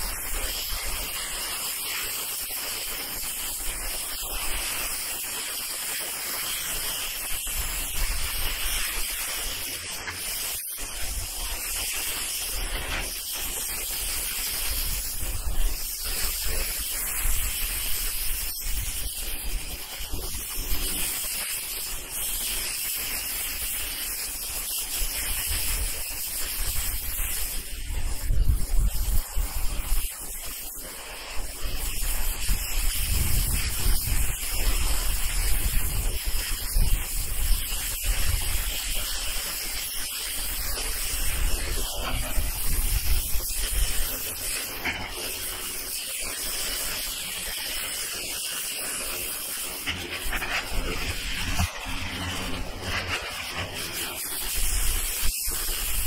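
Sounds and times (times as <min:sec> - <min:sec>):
pressure washer water spray hissing: 0:00.0 - 0:56.0.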